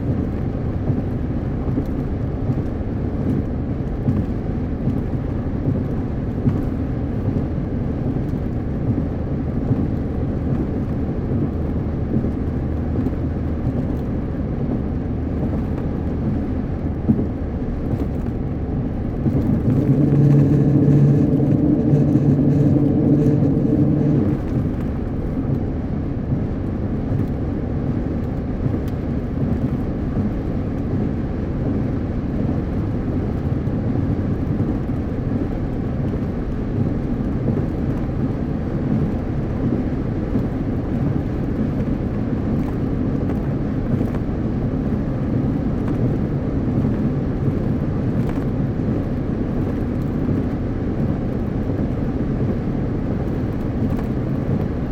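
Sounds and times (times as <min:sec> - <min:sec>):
car road and tyre noise: 0:00.0 - 0:54.9
loud steady hum: 0:00.0 - 0:54.9.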